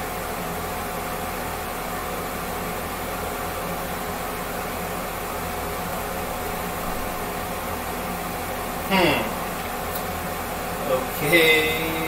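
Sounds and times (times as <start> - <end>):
fan humming and hissing: 0.0 - 12.0
low electrical buzz: 0.0 - 12.0.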